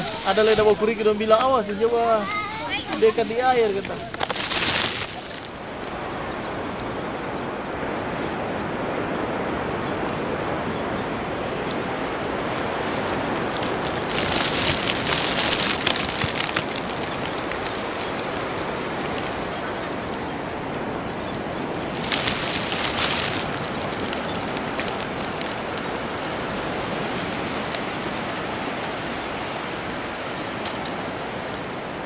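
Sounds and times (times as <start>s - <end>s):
crackling rustle: 0.0s - 32.0s
sea surf: 0.0s - 32.0s
wind: 0.0s - 32.0s.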